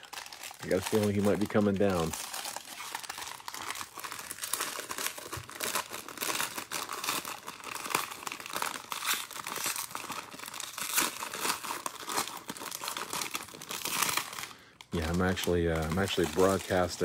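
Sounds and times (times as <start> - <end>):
foil wrapper crinkling and tearing: 0.0 - 17.0.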